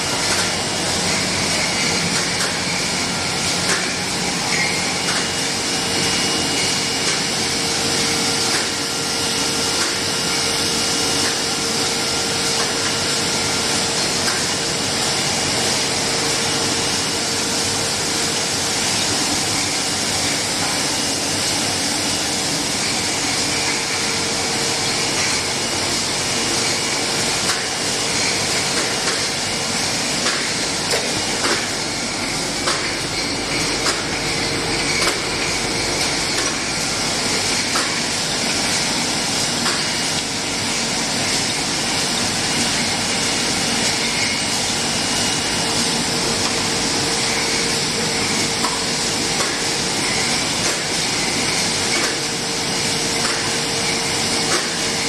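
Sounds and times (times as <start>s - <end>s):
packaging machinery hissing: 0.0s - 55.0s.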